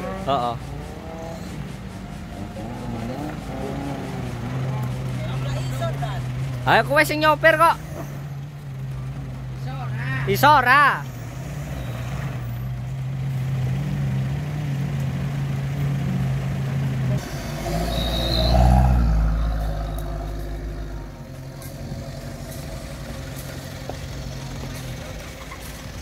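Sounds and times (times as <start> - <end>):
suv engine running under load: 0.0 - 26.0.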